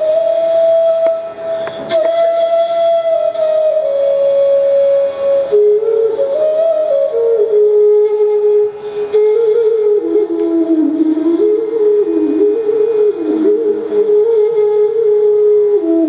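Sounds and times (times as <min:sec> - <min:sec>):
bamboo flute slow melody: 0:00.0 - 0:16.0.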